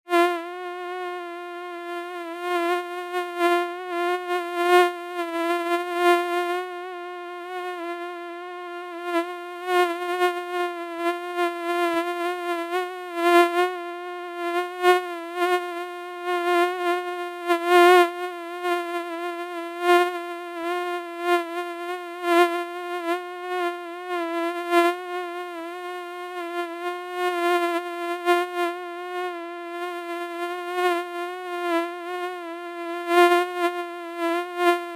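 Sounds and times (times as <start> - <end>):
housefly buzzing: 0.1 - 34.9.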